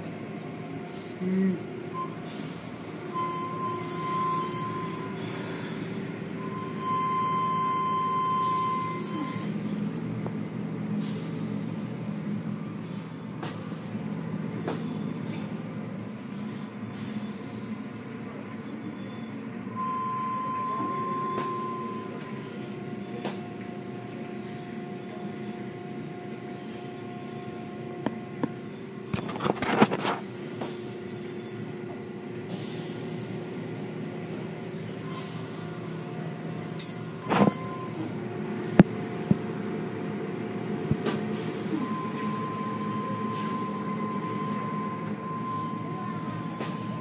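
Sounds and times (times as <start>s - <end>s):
car wash motor hum: 0.0s - 47.0s.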